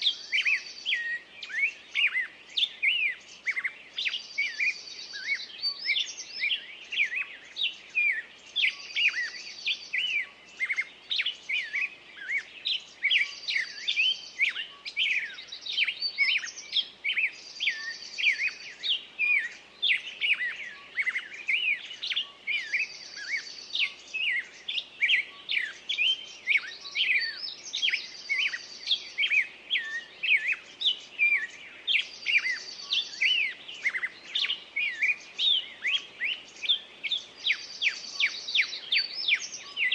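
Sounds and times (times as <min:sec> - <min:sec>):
bird trill: 0:00.0 - 0:39.9
songbirds chirping: 0:00.0 - 0:39.9.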